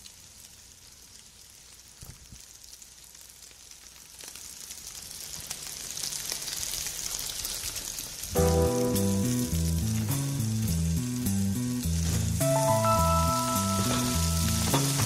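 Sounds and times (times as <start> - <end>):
food sizzling on a grill: 0.0 - 15.0.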